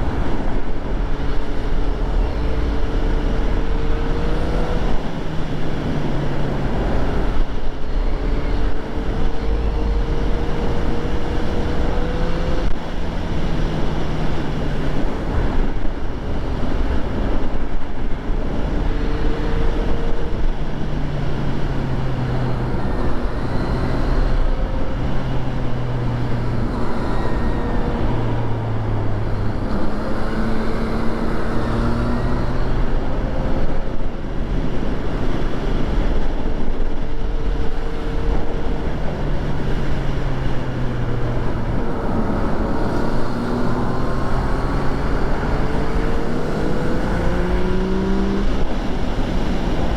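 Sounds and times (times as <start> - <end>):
motorcycle engine revving: 0.0 - 49.9
wind and road noise: 0.0 - 49.9.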